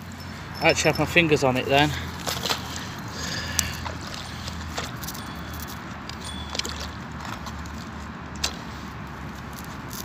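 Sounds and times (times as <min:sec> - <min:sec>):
magnet stirring water: 0:00.0 - 0:10.0.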